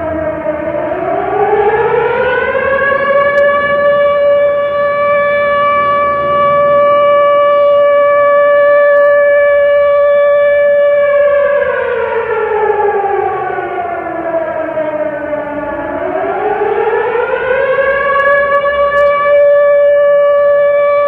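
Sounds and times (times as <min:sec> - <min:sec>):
factory siren: 0:00.0 - 0:21.0.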